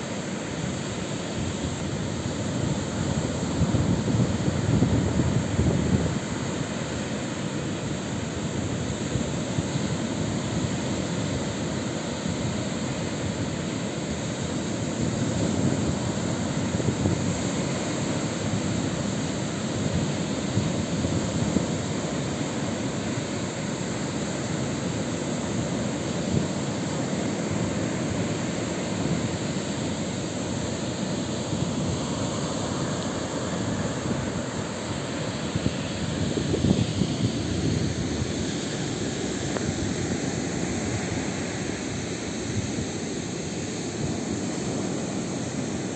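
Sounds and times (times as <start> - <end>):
surf breaking on beach: 0.0 - 45.9.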